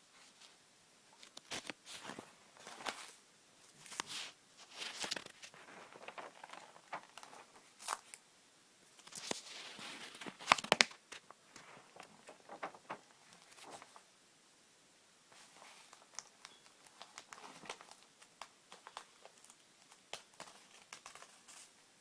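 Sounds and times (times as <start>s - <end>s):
paper pages rustling: 1.2s - 8.2s, 9.0s - 14.1s, 15.4s - 21.8s.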